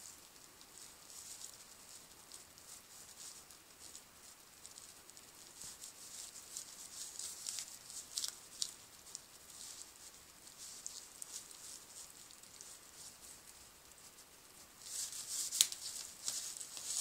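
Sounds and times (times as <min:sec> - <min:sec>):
wrapper crinkling: 0:00.0 - 0:14.2, 0:14.8 - 0:17.0.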